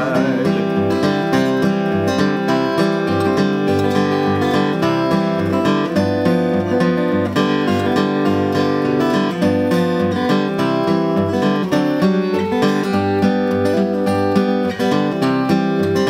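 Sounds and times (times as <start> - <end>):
fingerstyle acoustic guitar: 0.0 - 16.0.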